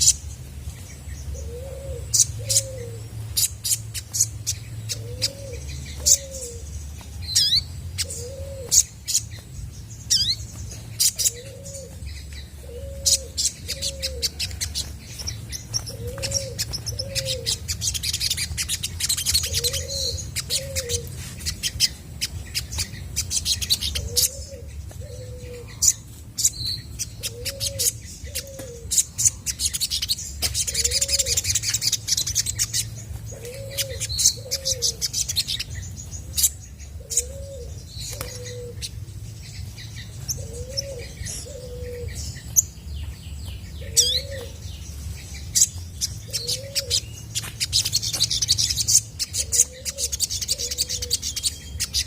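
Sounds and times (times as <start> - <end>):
steady low hum: 0.0 - 52.0
sunbird singing high chirps: 0.0 - 52.0.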